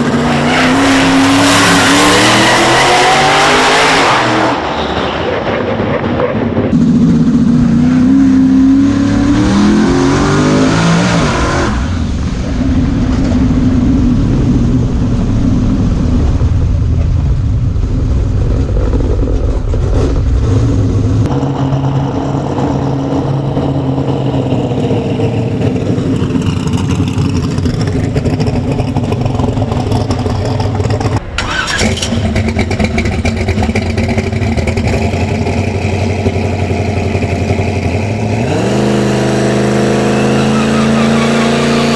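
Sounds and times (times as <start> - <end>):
truck engine accelerating: 0.0 - 41.9.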